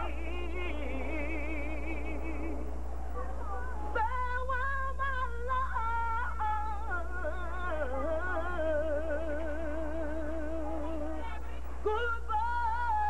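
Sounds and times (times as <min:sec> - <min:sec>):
girl singing unaccompanied: 0:00.0 - 0:13.0
steady low hum: 0:00.0 - 0:13.0.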